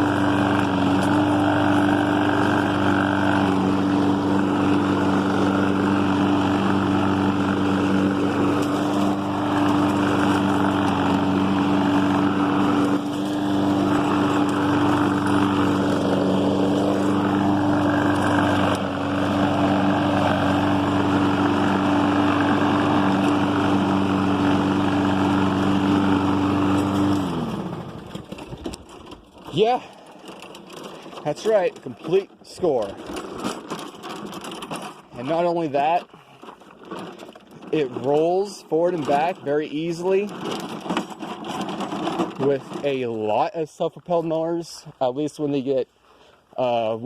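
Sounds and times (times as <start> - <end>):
lawnmower engine running: 0.0 - 45.6.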